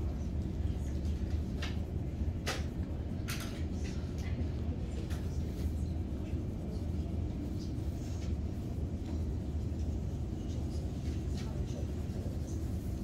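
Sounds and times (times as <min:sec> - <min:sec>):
low classroom rumble: 0:00.0 - 0:13.0.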